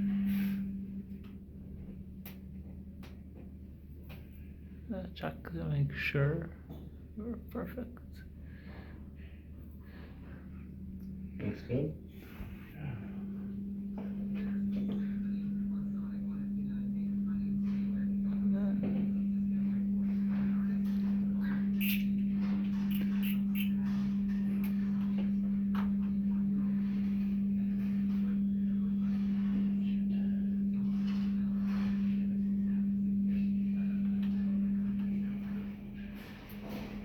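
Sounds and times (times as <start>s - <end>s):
low-pitched hum: 0.0s - 37.0s.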